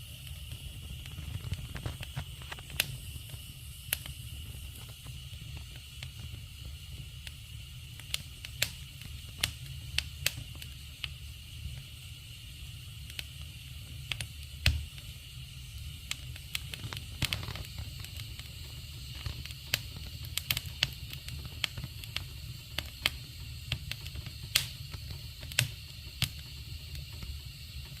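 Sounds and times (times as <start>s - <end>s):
fire crackling and popping: 0.0s - 28.0s
steady hiss: 0.0s - 28.0s.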